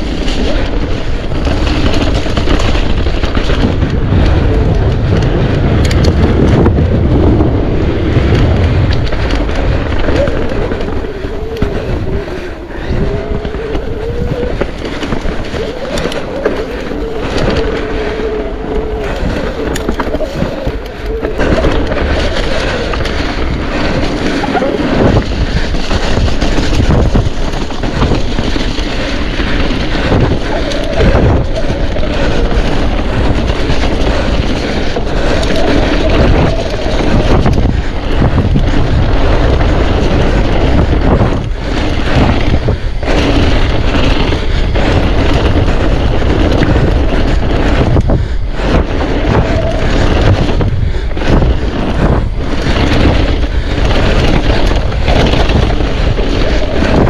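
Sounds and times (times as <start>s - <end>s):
bike knocks and rattles: 0.0s - 12.2s, 12.8s - 57.0s
tyres rumbling over gravel: 0.0s - 57.0s
wind on microphone: 0.0s - 57.0s.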